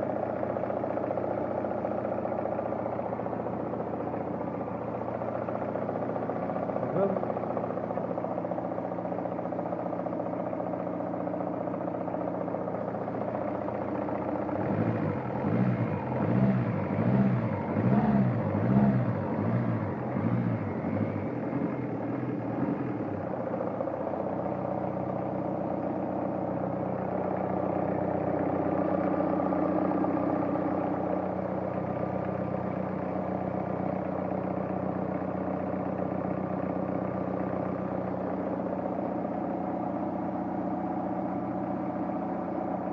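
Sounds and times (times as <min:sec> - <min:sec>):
diesel engine idling: 0:00.0 - 0:42.9
engine knock: 0:00.0 - 0:42.9.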